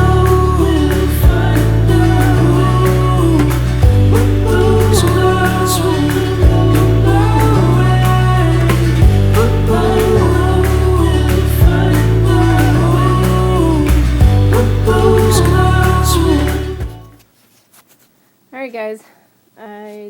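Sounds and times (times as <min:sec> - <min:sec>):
song with sung vocals and drums: 0:00.0 - 0:17.1.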